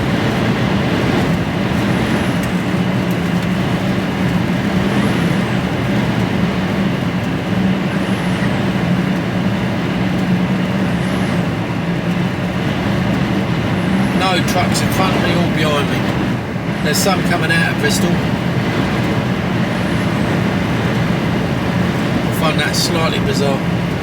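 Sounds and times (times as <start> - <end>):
lorry engine drone: 0.0 - 24.0
road noise: 0.0 - 24.0.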